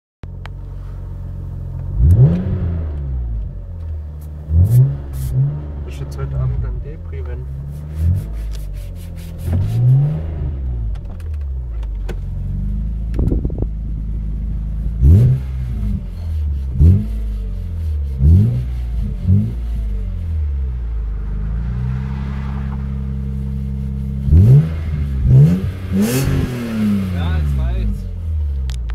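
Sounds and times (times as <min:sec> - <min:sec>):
car engine idling and revving: 0:00.2 - 0:28.9.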